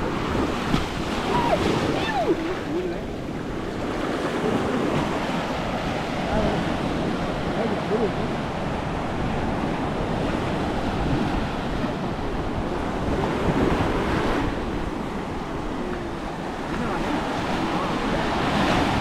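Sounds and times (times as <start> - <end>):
waves breaking on beach: 0.0 - 19.0
wind buffeting microphone: 0.0 - 19.0.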